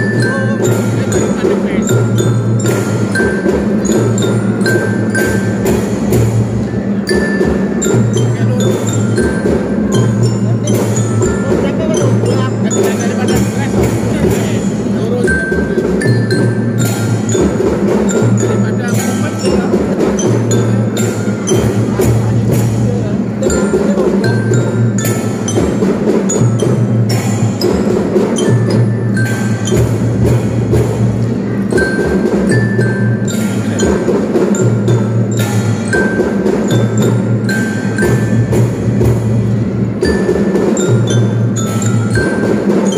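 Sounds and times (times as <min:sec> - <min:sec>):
drums and percussion: 0:00.0 - 0:42.9
glockenspiel melody: 0:00.0 - 0:42.9.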